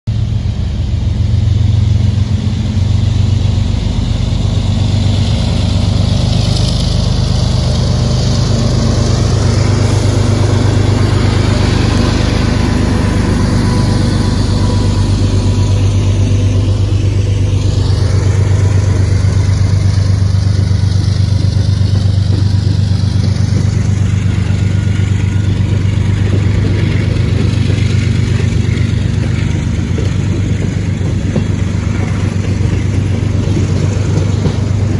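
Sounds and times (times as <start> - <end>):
diesel locomotive engines droning: 0.1 - 34.9
freight cars rolling on rails: 0.1 - 34.9.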